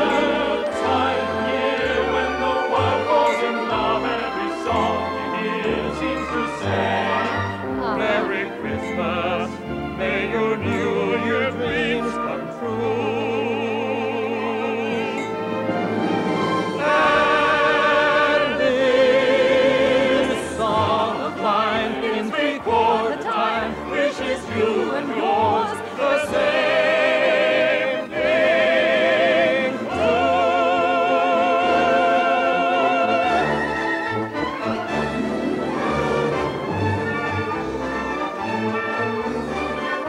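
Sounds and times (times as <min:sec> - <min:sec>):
operatic singing with vibrato: 0:00.0 - 0:40.0
orchestral accompaniment: 0:00.0 - 0:40.0.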